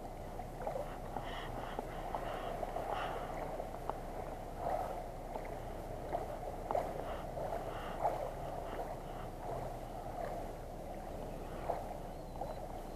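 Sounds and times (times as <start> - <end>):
water lapping against float tube: 0.0 - 12.9.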